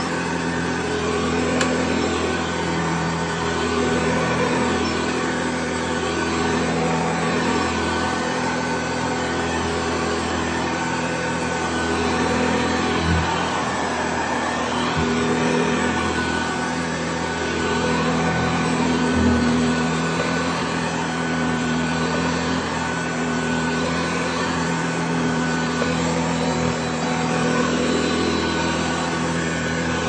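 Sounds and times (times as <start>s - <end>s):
upright vacuum cleaner running: 0.0s - 30.0s.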